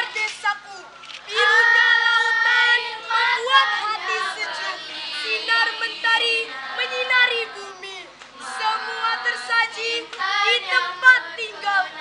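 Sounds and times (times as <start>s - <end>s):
girls singing a cheer song: 1.2s - 12.0s.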